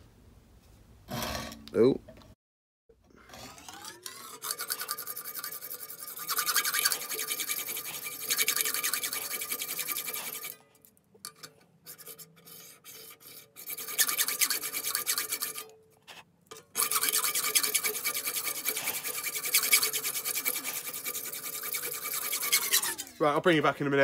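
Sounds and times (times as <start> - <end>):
hacksaw cutting metal: 3.0 - 15.8, 16.5 - 23.4.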